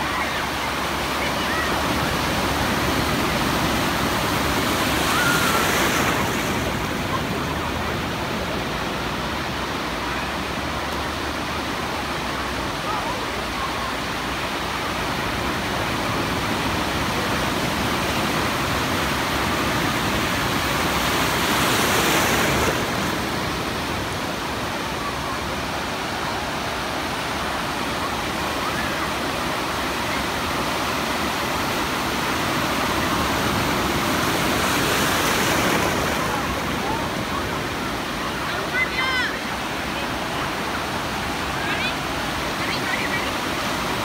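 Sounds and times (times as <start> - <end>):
wave breaking: 0.0 - 9.6, 14.5 - 44.0
ocean surf washing in: 0.0 - 44.0.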